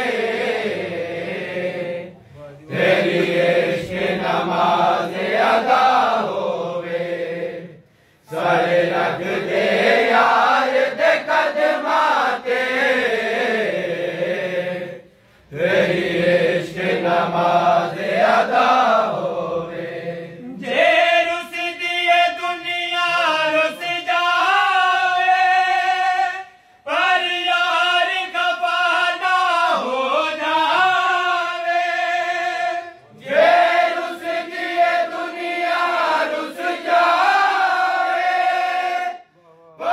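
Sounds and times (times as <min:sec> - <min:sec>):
men singing together unaccompanied: 0:00.0 - 0:39.9.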